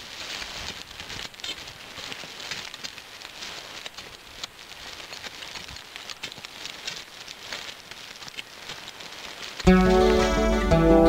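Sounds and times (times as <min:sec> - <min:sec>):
soil and stones pattering down: 0:00.0 - 0:11.0.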